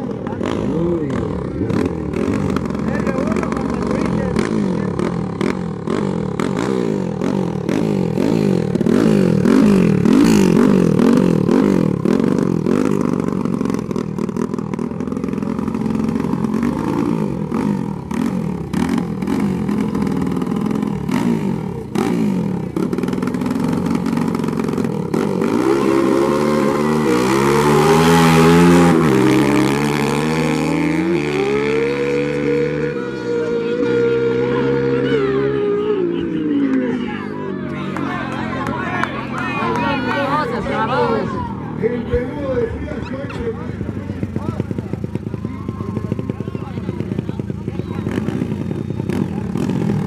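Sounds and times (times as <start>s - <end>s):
dirt bike engines revving: 0.0s - 50.0s.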